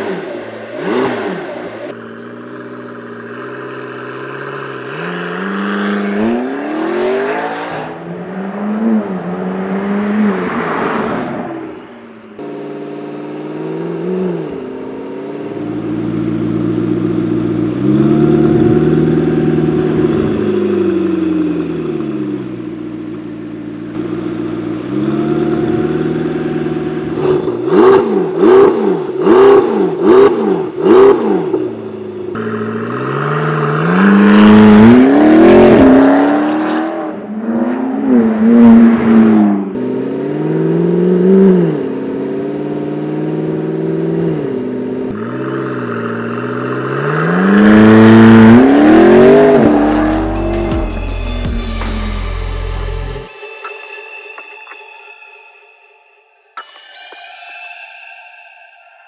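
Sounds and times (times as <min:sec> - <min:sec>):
car engine revving: 0:00.0 - 0:53.2.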